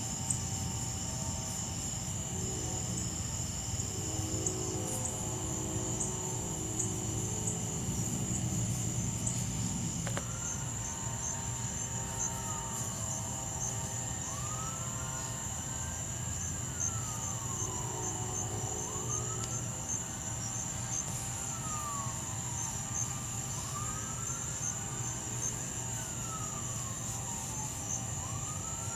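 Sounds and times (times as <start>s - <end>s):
distant siren wailing: 0.0s - 28.9s
night insects trilling: 0.0s - 28.9s.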